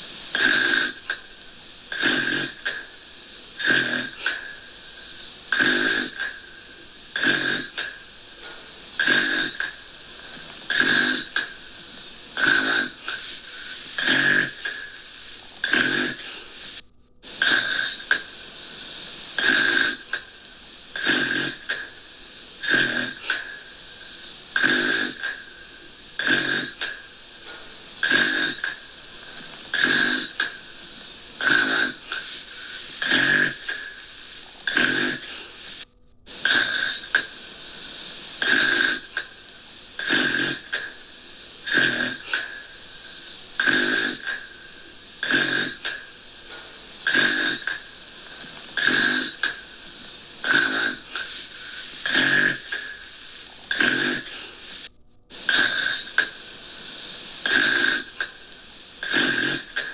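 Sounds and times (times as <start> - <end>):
gentle breathy snoring: 0.0 - 59.9
steady hiss: 0.0 - 59.9.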